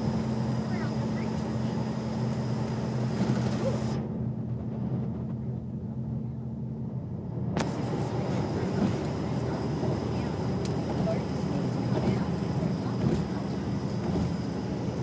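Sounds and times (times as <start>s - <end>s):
bus engine and road rumble: 0.0s - 15.0s
low hum: 0.0s - 15.0s.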